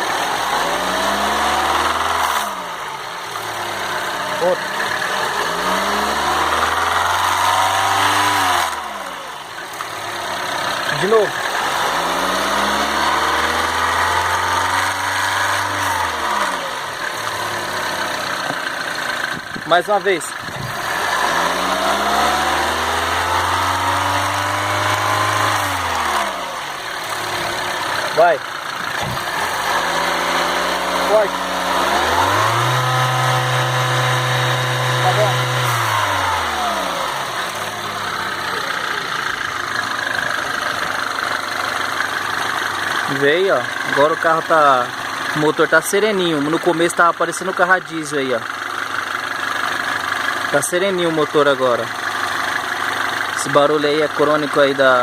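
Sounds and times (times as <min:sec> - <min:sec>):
car engine revving then idling: 0:00.0 - 0:55.0.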